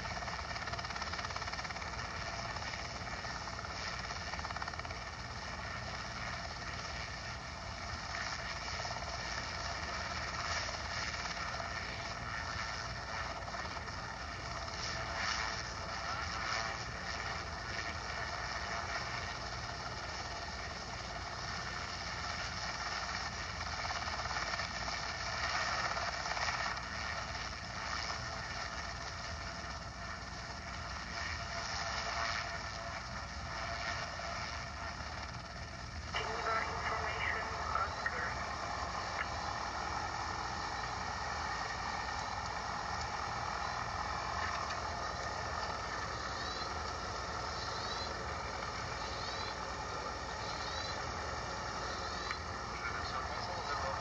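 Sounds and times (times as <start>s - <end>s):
airplane engine droning: 0.0s - 54.0s.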